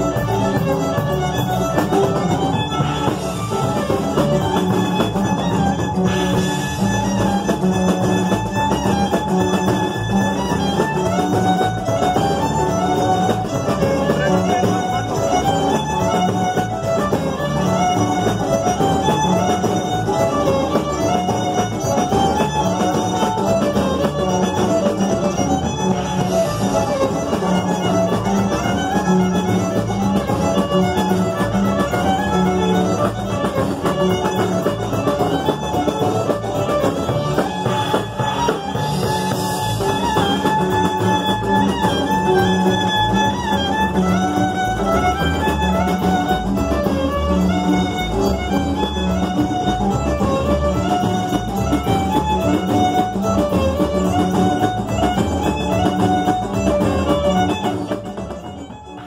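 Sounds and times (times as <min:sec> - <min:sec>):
live band through a pa: 0:00.0 - 0:59.0
violin melody: 0:00.0 - 0:59.0.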